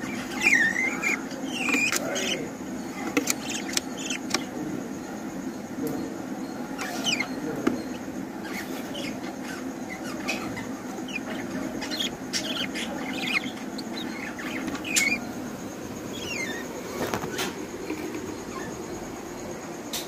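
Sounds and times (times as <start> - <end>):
budgerigars chirping: 0.0 - 4.6, 6.7 - 18.8
steady low hum: 0.0 - 20.0.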